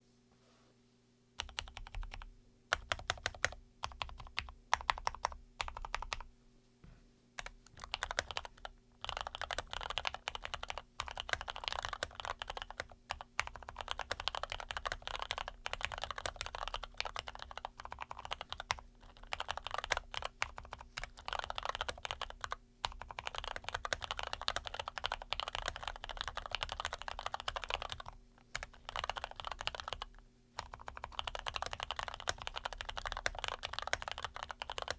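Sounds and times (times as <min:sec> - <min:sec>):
mechanical keyboard typing: 0:01.4 - 0:06.3, 0:07.4 - 0:34.9.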